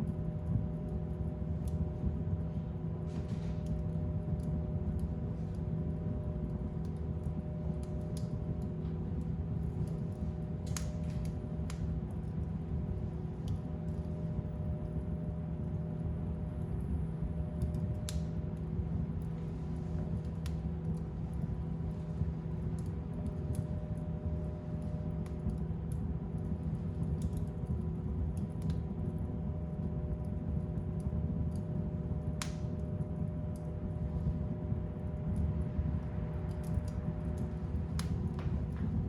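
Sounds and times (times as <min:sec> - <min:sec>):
fire burning in fireplace: 0:00.0 - 0:39.0
fire crackles and pops: 0:00.0 - 0:39.0.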